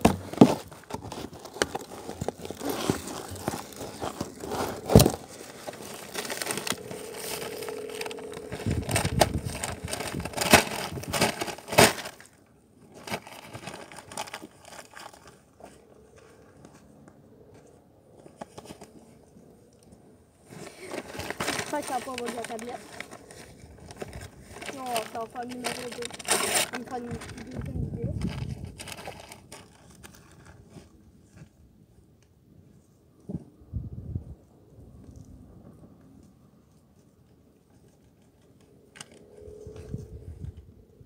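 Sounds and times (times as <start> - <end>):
crinkling and rustling: 0.0 - 33.5, 35.0 - 40.7.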